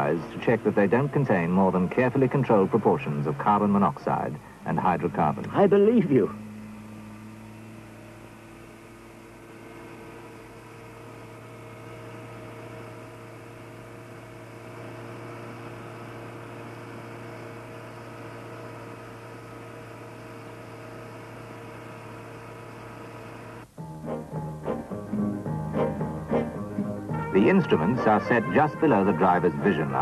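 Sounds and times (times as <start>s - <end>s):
machine hum with tones: 0.0s - 30.0s.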